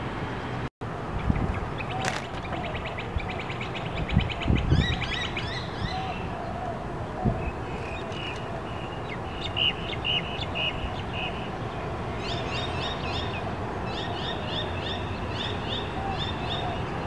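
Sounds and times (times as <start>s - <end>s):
small songbirds chirping: 1.2s - 17.0s.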